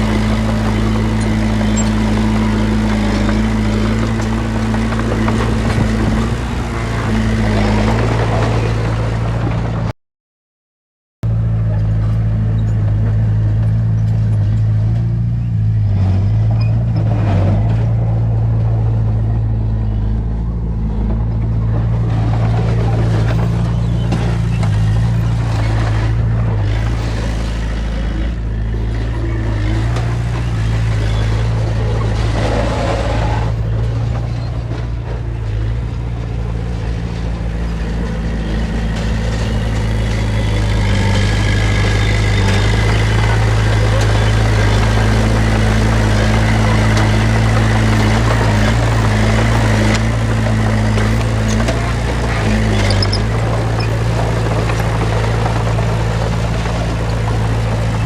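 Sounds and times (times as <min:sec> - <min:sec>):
heavy diesel engine running: 0:00.0 - 0:09.9, 0:11.3 - 0:58.0
rattling and scraping: 0:00.0 - 0:09.9, 0:21.0 - 0:58.0.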